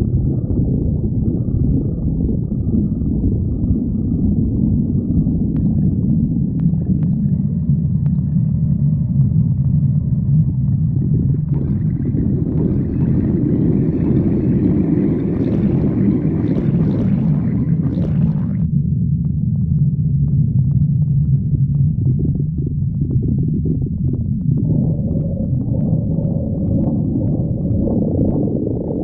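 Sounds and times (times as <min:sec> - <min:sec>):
stomach growling: 0:00.0 - 0:29.0.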